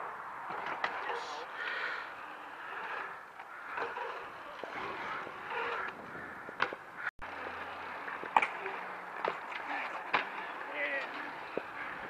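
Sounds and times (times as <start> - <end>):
bike tyres rolling on concrete: 0.0 - 12.0.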